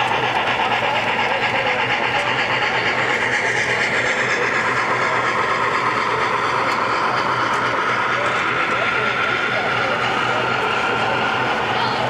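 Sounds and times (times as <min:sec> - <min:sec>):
model train wheels rumbling: 0:00.0 - 0:12.0.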